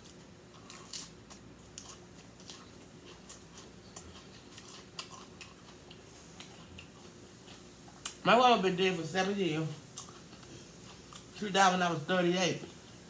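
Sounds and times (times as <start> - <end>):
chewing salad greens: 0.0 - 13.0.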